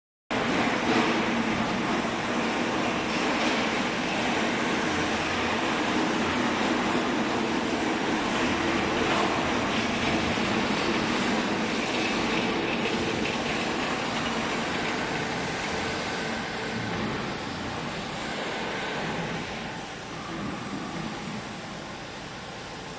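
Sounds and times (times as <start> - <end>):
hydraulic baler droning: 0.4 - 22.7.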